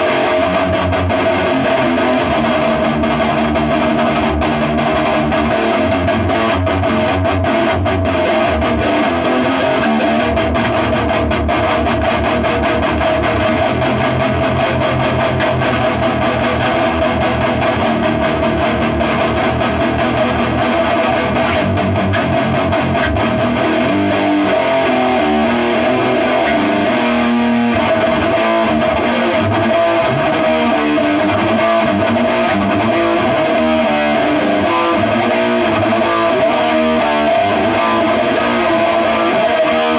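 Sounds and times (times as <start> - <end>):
electric guitar through amp: 0.0 - 39.9.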